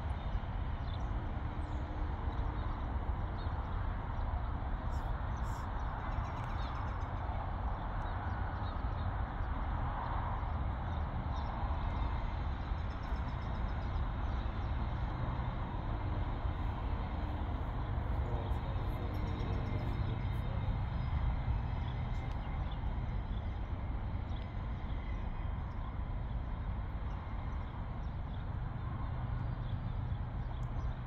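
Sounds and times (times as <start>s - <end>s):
outdoor background rumble: 0.0s - 31.0s.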